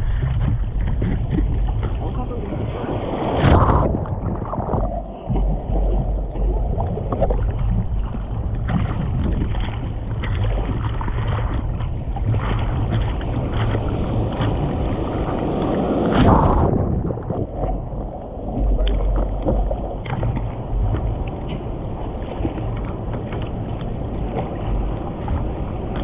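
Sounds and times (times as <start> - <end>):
sea water splashing and rushing: 0.0 - 26.0
wind buffeting microphone: 0.0 - 26.0.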